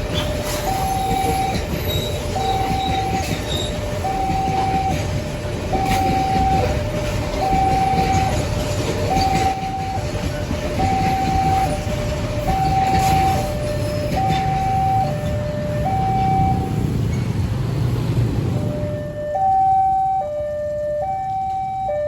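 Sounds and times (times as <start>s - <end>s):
two-tone crossing alarm: 0.0s - 17.2s, 18.6s - 22.0s
train passing rumble: 0.0s - 22.0s.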